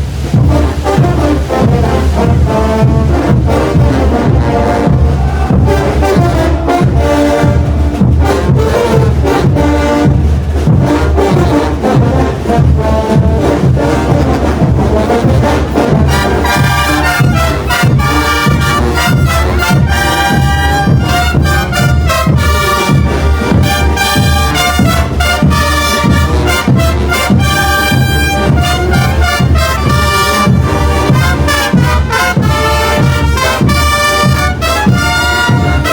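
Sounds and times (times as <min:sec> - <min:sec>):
brass band playing: 0:00.0 - 0:35.9
drums keeping a beat: 0:00.0 - 0:35.9
bright trumpets: 0:00.1 - 0:35.9.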